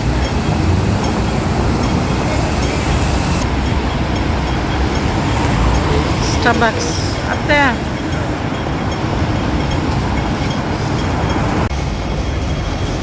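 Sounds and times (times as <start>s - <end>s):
heavy street traffic rumble: 0.0s - 13.0s.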